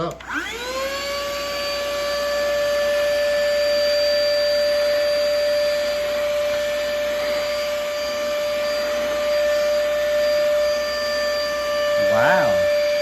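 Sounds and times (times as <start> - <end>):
handheld vacuum cleaner running: 0.0 - 13.0.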